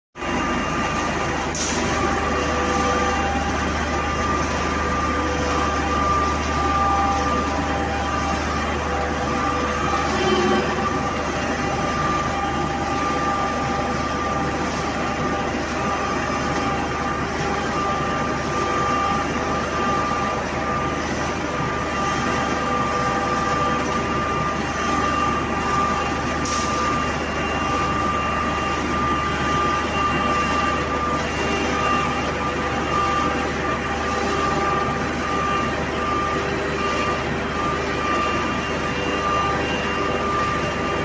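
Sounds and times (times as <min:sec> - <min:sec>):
machinery droning: 0:00.2 - 0:41.0
machinery whining tones: 0:00.2 - 0:41.0.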